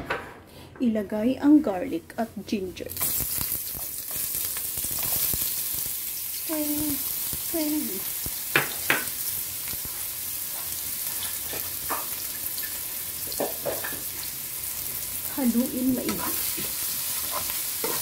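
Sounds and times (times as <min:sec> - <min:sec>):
garlic sizzling in oil: 0:02.9 - 0:18.0.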